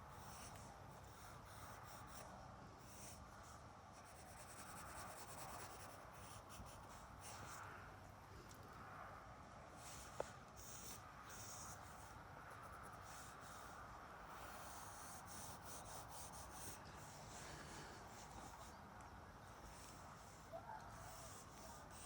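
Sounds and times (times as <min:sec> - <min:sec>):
quiet outdoor background: 0:00.0 - 0:22.0
pen scratching on paper: 0:00.1 - 0:07.6, 0:09.8 - 0:18.8, 0:19.6 - 0:22.0.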